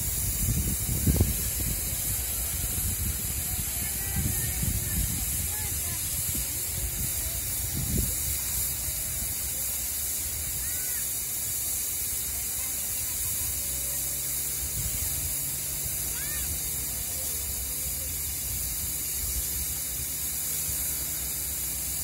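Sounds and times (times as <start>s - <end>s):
snow lance spraying hiss: 0.0s - 22.0s.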